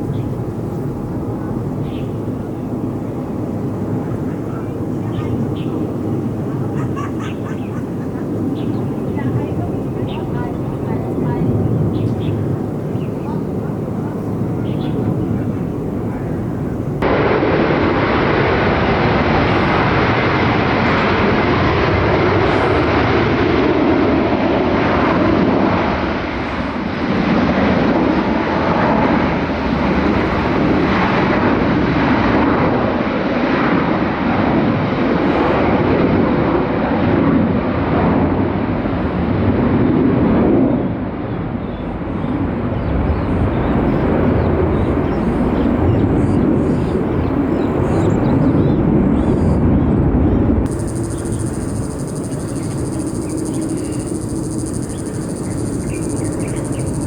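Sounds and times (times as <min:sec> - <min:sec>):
jet airliner engines running: 0:00.0 - 0:57.0.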